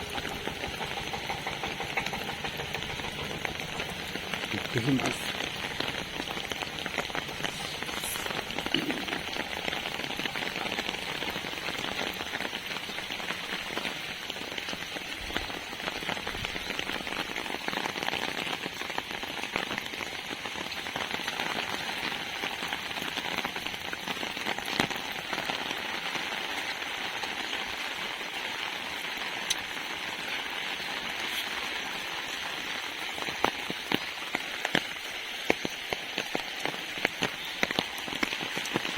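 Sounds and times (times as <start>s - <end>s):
rain pattering on umbrella: 0.0s - 38.9s.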